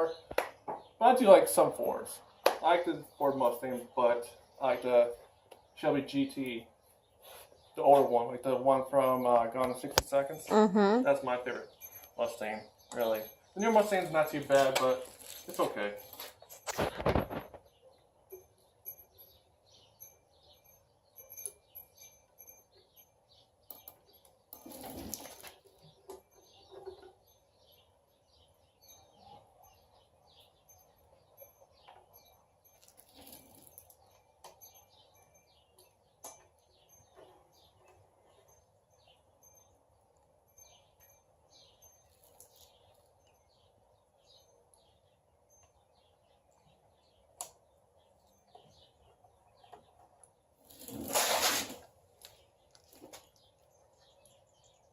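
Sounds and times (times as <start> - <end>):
birds chirping: 0.0 - 51.1, 52.0 - 54.9.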